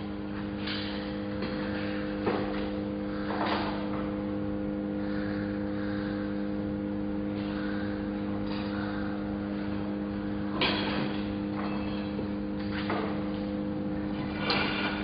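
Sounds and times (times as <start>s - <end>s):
welding machine hum: 0.0s - 15.0s.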